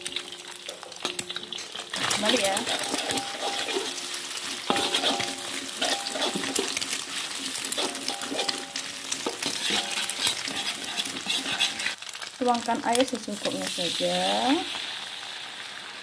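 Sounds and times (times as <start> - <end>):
metal spatula scraping wok: 0.0 - 12.1, 13.3 - 14.4
food sizzling in oil: 0.0 - 16.0.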